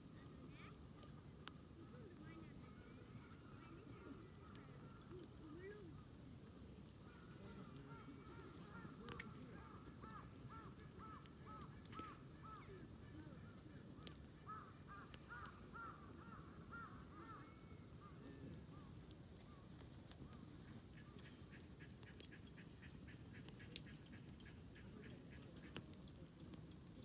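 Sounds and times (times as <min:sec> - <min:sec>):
campfire popping and crackling: 0:00.0 - 0:27.0.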